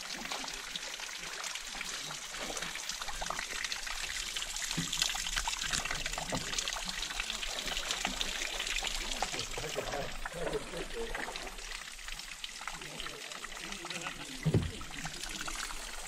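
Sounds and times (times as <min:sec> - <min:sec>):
water dripping into a pool: 0:00.0 - 0:16.0.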